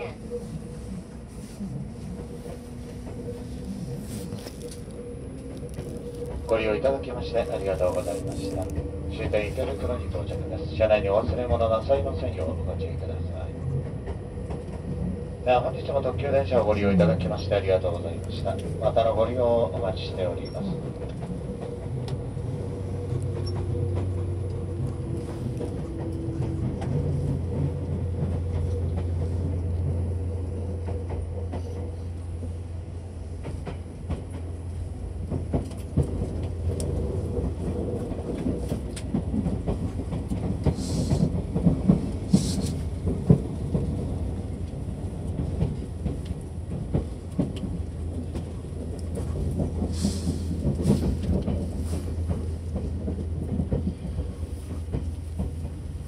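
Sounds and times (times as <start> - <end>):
train running hum: 0.0 - 56.0.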